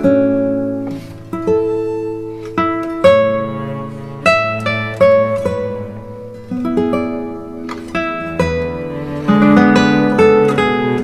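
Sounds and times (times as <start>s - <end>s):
acoustic guitar slow melody: 0.0s - 11.0s.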